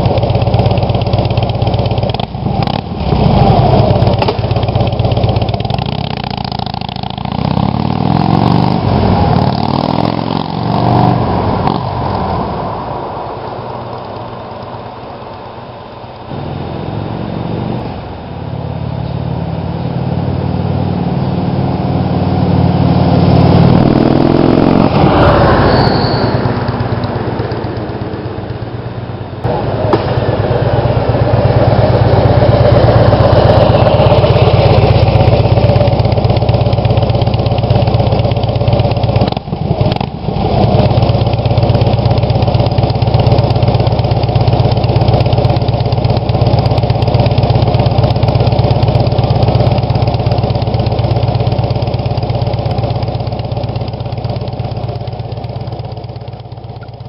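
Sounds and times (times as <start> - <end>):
motorcycle exhaust rumble: 0.0 - 57.0.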